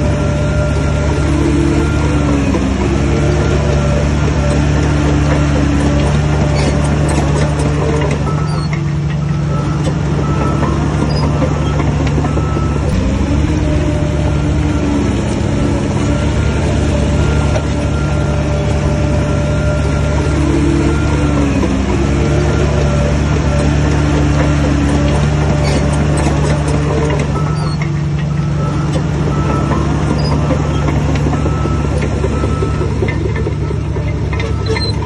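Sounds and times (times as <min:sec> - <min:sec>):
bulldozer diesel engine under load: 0:00.0 - 0:35.0.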